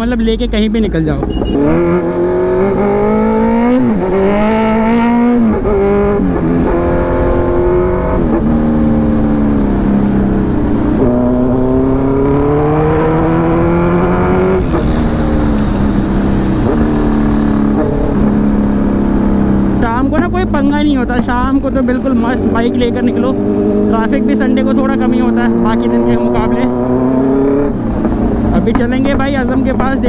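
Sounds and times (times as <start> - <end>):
motorcycle engine accelerating: 1.2 - 30.0
wind rush: 3.6 - 30.0.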